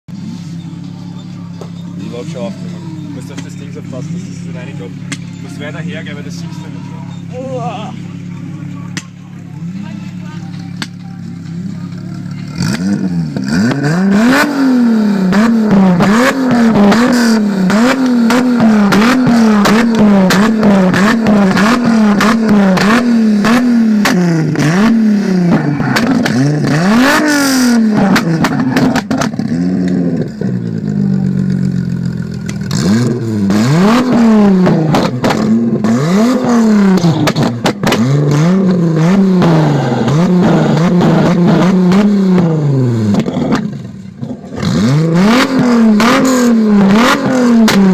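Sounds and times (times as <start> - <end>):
car engine revving: 0.1 - 47.9
exhaust crackles: 0.2 - 47.9.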